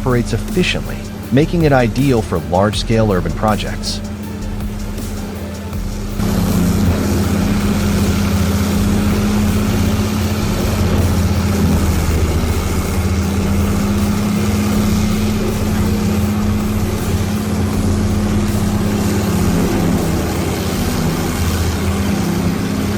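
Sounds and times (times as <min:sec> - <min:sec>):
engine droning under load: 0:00.0 - 0:22.9.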